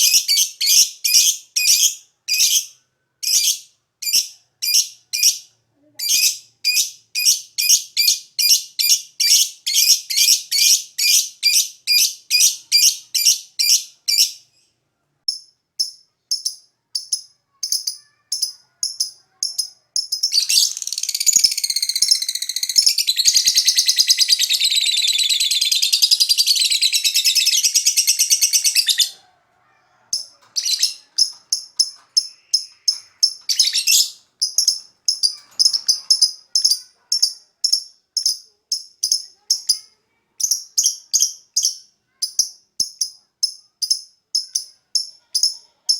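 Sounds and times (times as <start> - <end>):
bird chirping and trilling: 0.0 - 14.5, 15.3 - 29.2, 30.1 - 45.6.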